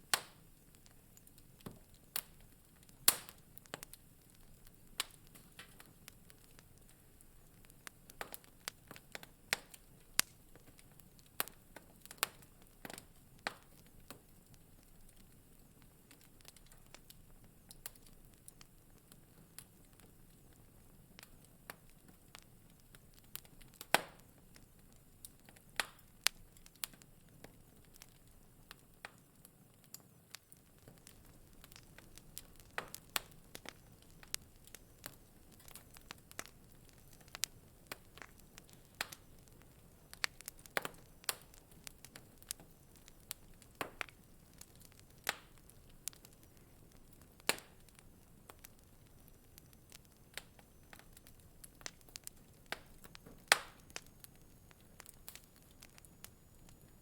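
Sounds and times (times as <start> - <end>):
faint low hiss of fire: 0.0 - 57.0
wood fire crackling and popping: 0.0 - 57.0.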